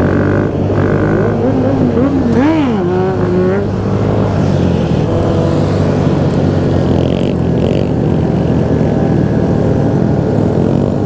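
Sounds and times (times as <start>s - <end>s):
motorcycle engines running: 0.0s - 11.0s
wind noise on microphone: 0.0s - 11.0s.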